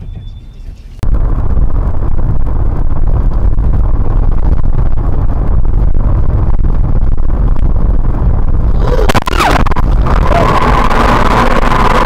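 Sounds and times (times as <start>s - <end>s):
car engine and tyre noise: 0.2s - 12.0s.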